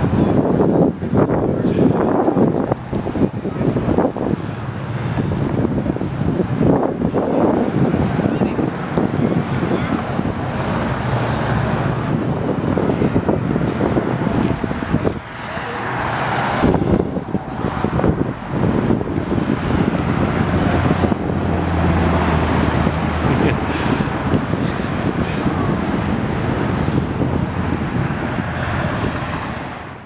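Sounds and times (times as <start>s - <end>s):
cars and trucks driving past: 0.0s - 30.0s
vehicle engine hum: 0.0s - 30.0s
wind on microphone: 0.0s - 30.0s.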